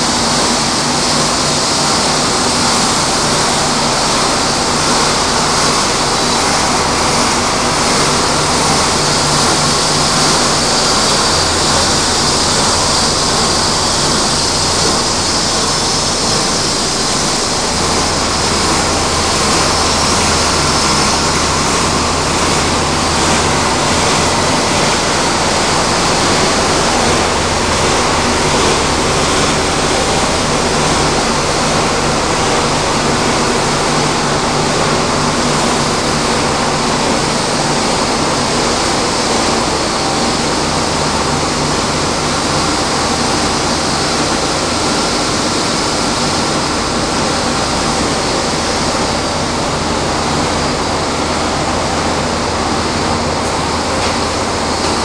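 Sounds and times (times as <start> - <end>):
low motor hum: 0.0 - 55.0
recycling machinery noise: 0.0 - 55.0.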